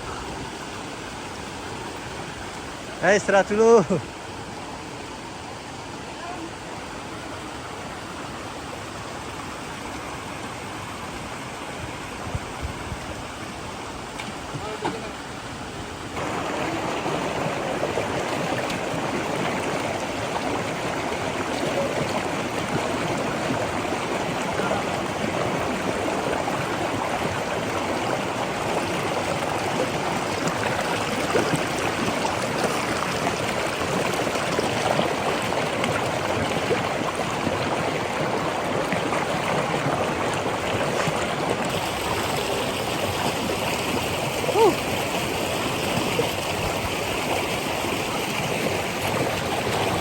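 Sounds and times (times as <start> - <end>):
rushing water: 0.0 - 50.0.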